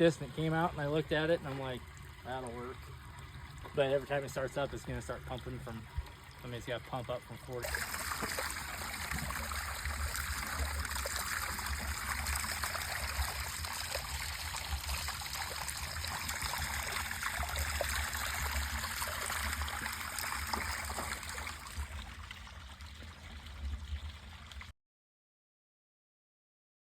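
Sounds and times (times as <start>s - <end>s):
water splashing into pond: 0.0s - 24.7s.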